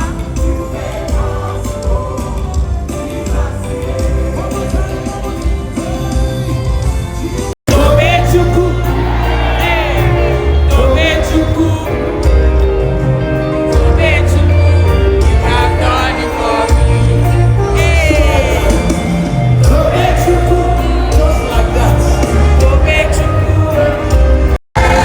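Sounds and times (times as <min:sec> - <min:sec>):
worship music with singing: 0:00.0 - 0:25.0.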